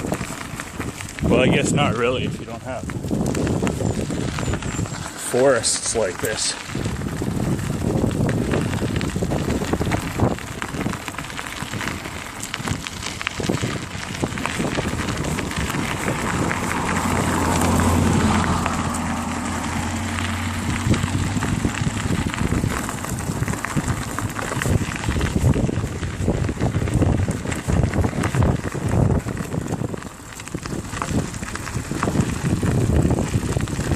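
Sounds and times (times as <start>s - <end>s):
bicycle rattles and clicks: 0.0s - 33.9s
wind buffeting microphone: 0.0s - 33.9s.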